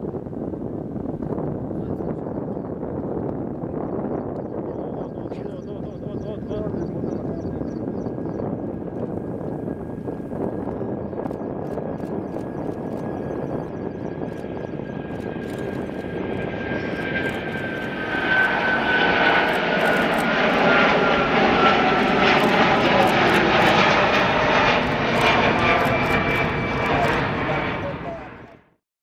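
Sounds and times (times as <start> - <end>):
jet engines at takeoff: 0.0 - 28.7.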